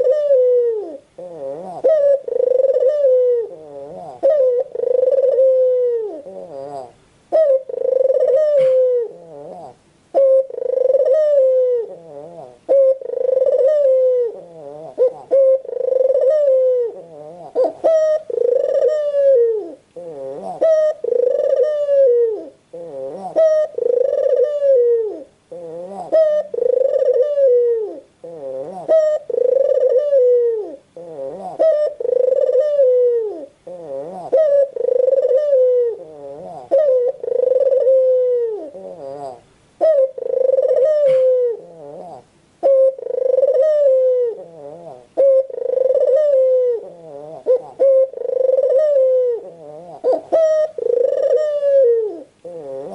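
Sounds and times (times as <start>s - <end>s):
dove cooing: 0.0s - 52.9s.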